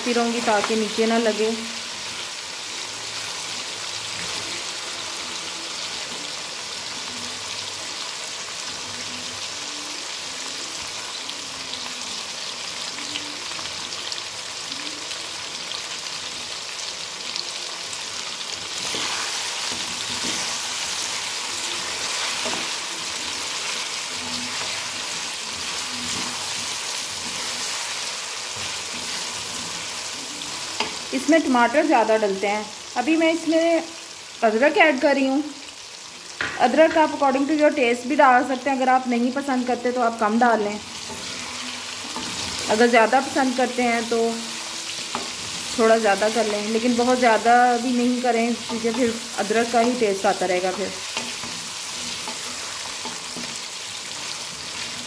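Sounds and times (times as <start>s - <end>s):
chicken and onions sizzling: 0.0s - 55.0s.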